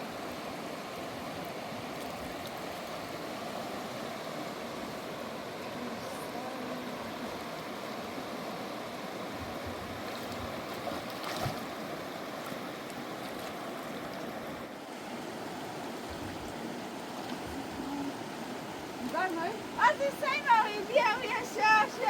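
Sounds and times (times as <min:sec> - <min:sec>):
fast river rushing: 0:00.0 - 0:22.0.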